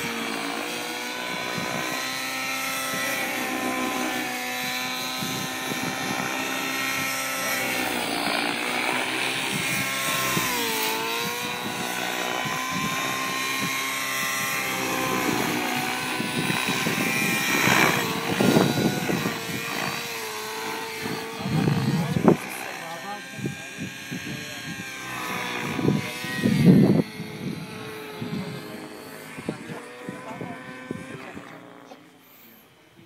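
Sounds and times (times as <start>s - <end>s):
model helicopter engine whine: 0.0s - 33.0s.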